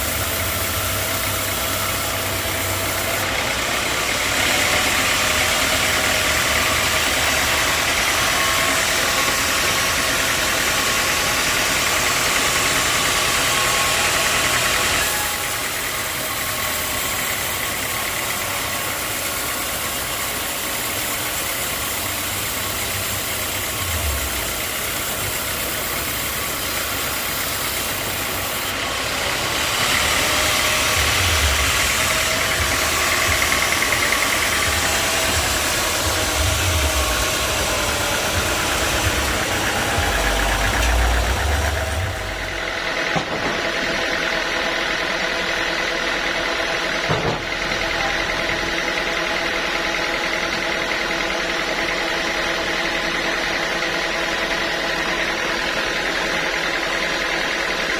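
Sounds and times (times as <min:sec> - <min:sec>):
sawmill machinery hissing: 0:00.0 - 0:57.9.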